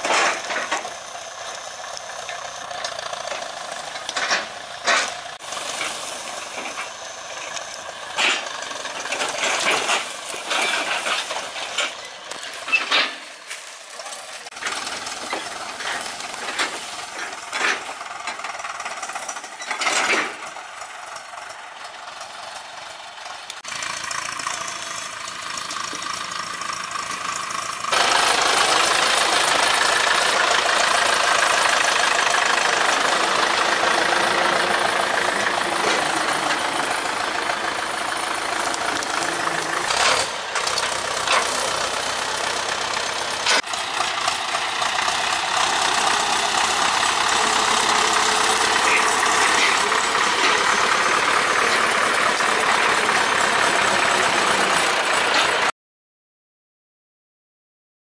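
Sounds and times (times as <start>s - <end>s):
diesel tractor engine running: 0.0s - 55.7s.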